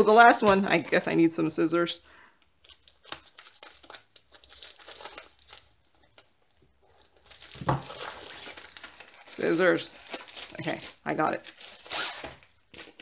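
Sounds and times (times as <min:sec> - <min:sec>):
plastic mailer crinkling: 0:02.4 - 0:13.0.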